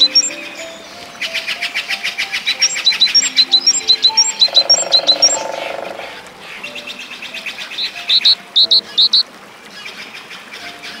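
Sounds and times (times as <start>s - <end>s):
bird calling high notes: 0.0s - 9.3s
faint background music: 0.0s - 11.0s.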